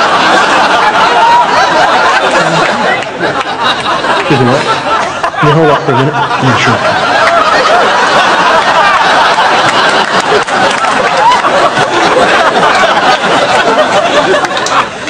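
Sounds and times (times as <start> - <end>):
crowd chattering and laughing: 0.0 - 15.0.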